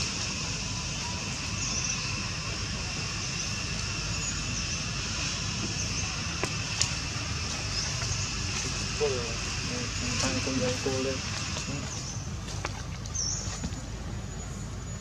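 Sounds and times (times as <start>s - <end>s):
high-pitched insect drone: 0.0s - 12.3s.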